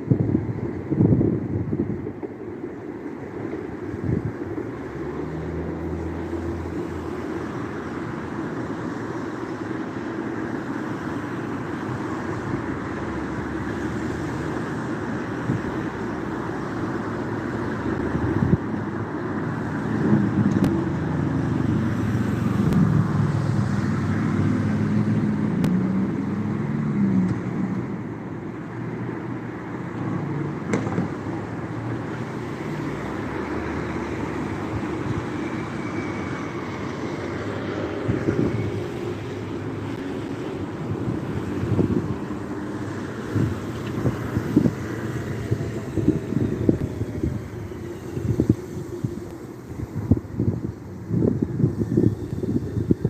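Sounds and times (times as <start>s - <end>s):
passing vehicle engine hum: 0.0s - 53.0s
road traffic: 0.0s - 53.0s.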